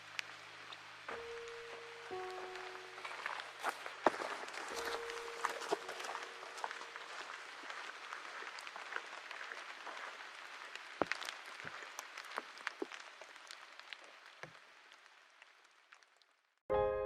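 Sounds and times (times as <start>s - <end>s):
campfire crackling: 0.0s - 16.6s.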